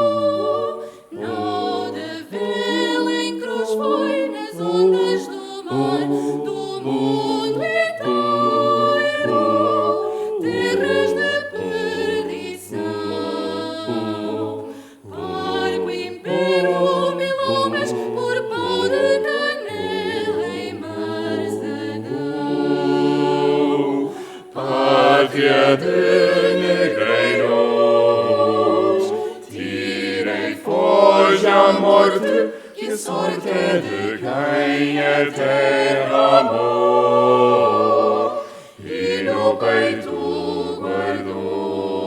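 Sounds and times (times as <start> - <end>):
vocal ensemble singing a cappella: 0.0 - 42.0.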